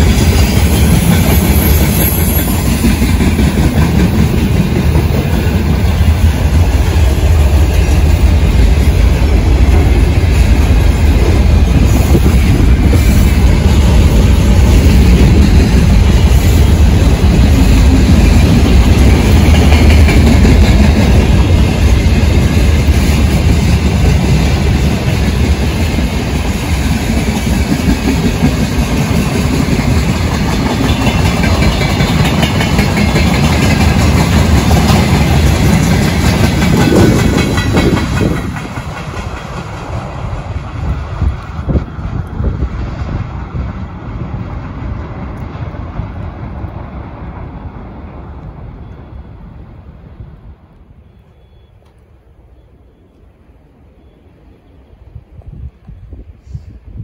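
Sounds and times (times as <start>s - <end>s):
train wheels clickety-clack: 0.0s - 47.4s
low rumble of train: 0.0s - 57.0s.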